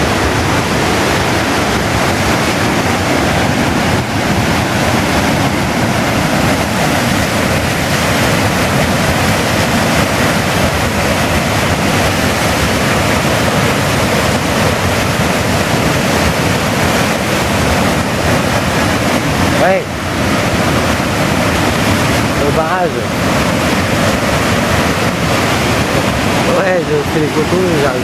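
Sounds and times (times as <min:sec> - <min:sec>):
river rushing over weir: 0:00.0 - 0:28.0.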